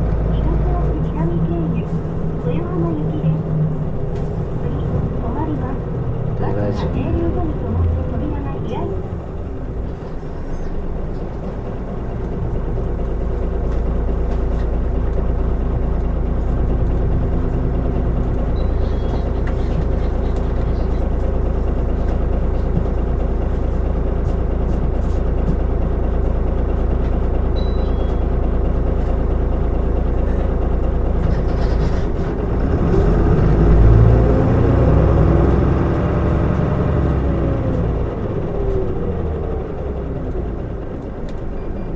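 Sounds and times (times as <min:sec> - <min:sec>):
bus diesel engine: 0:00.0 - 0:41.9
road noise: 0:00.0 - 0:41.9.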